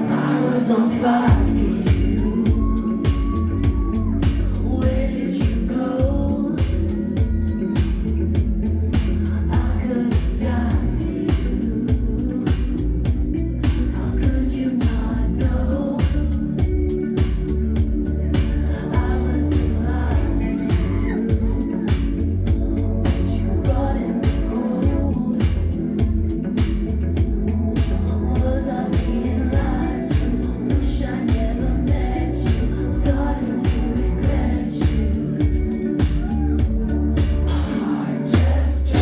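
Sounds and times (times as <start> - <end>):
person singing: 0.0 - 39.0
synth-pop band playing: 0.0 - 39.0
drum beat: 1.3 - 15.1, 16.0 - 39.0.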